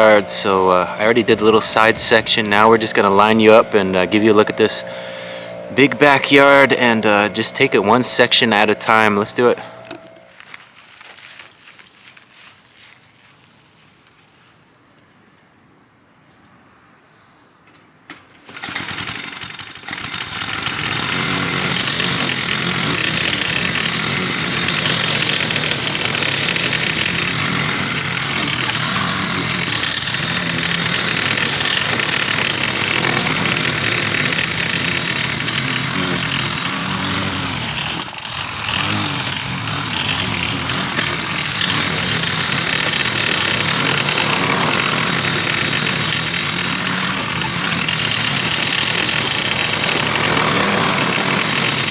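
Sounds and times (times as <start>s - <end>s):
lawn mower engine: 0.0s - 13.0s, 18.1s - 51.9s.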